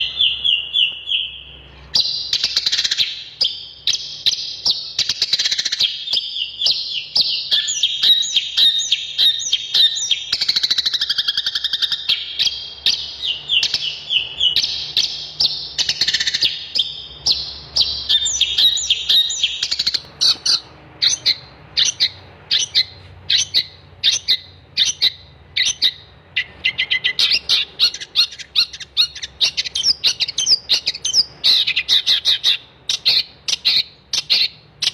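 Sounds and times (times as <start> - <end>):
shrike chattering song: 0.0 - 34.9.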